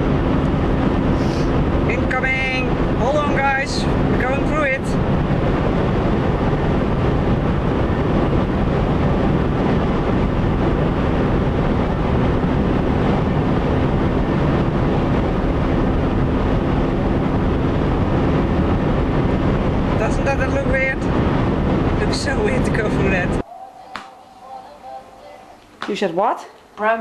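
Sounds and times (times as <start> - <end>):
wind and road noise inside car: 0.0 - 23.5.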